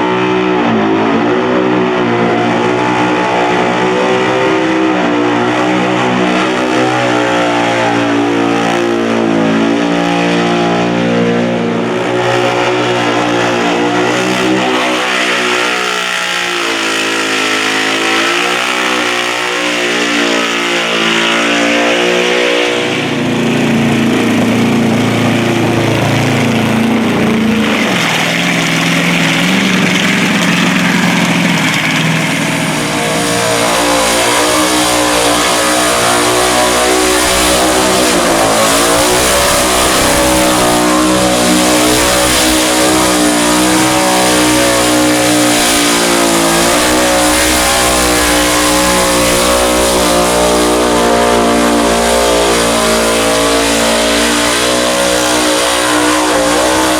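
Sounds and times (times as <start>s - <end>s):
car engine revving hard: 0.0s - 56.9s.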